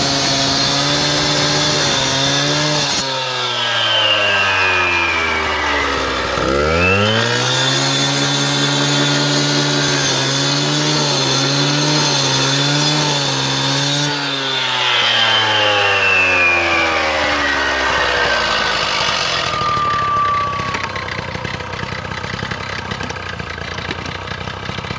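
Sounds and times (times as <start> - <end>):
disc cutter cutting stone: 0.0 - 23.2.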